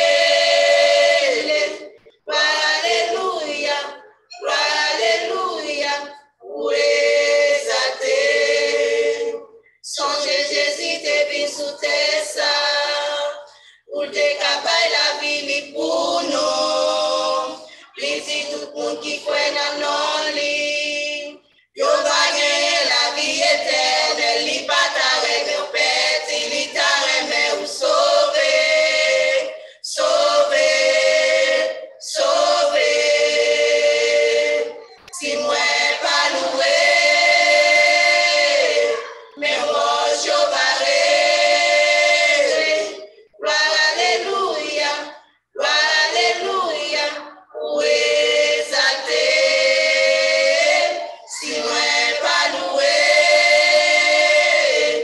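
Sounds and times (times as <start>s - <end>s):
choir singing a hymn a cappella: 0.0s - 55.0s.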